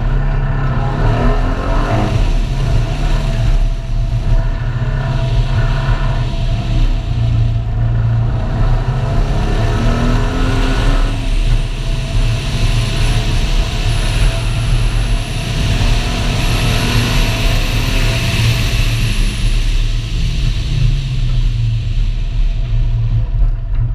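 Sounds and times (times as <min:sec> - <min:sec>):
car engine revving hard: 0:00.0 - 0:22.2.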